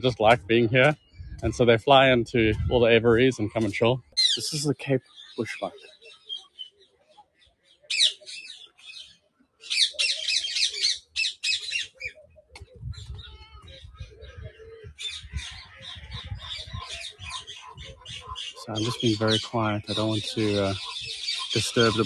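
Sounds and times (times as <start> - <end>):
birds squawking and chirping: 0.0 - 22.0.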